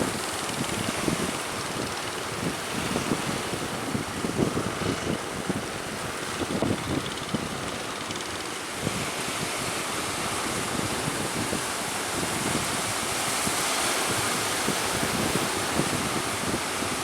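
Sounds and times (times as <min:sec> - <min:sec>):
sea waves rushing: 0:00.0 - 0:17.0
wind buffeting microphone: 0:00.0 - 0:17.0.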